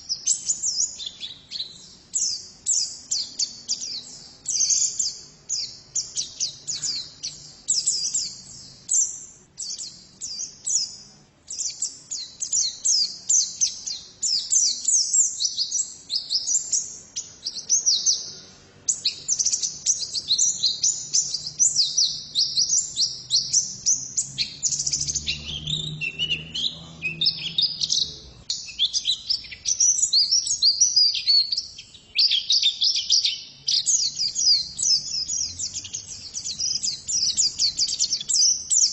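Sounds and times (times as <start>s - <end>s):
bird singing high chirps and trills: 0.0s - 38.9s.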